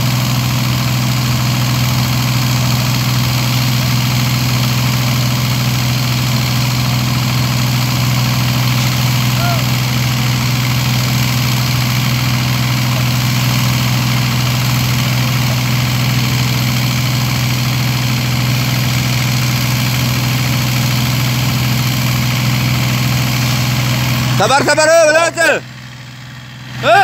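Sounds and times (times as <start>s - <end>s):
heavy engine humming: 0.0s - 27.0s.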